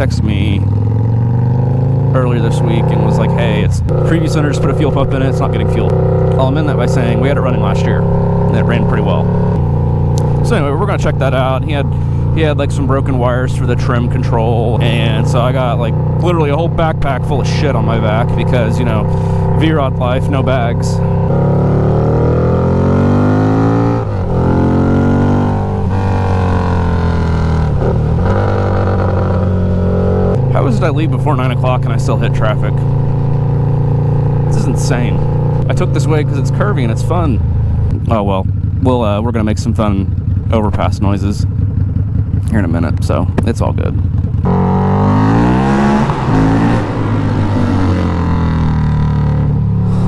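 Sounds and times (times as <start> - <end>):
motorcycle engine accelerating: 0.0 - 50.0.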